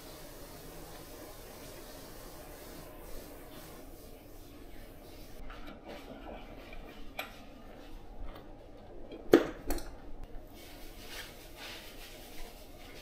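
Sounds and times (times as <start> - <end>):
soft rubbing: 0.0 - 8.8, 10.4 - 13.0.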